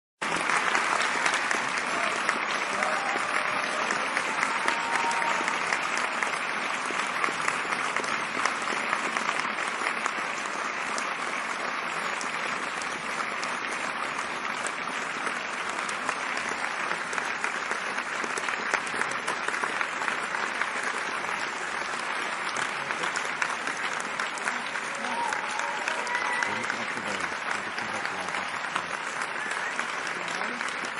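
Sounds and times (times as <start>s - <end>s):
audience applause: 0.2s - 30.9s.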